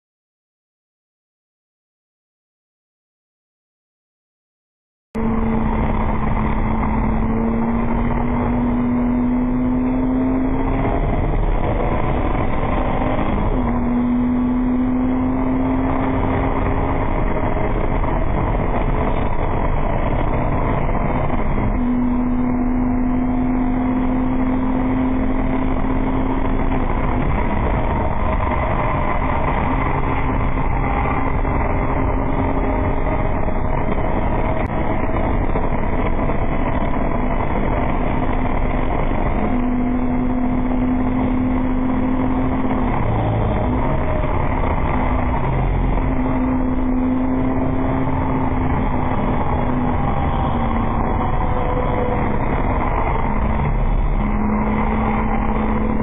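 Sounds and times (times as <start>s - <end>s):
race car engine at full throttle: 5.2s - 56.0s.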